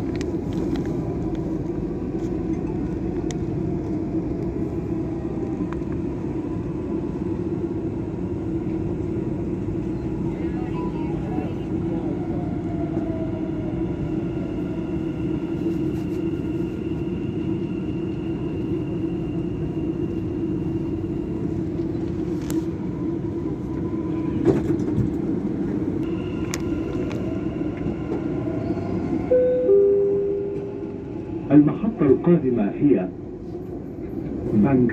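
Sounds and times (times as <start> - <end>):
train rumble with motor whine: 0.0 - 34.9.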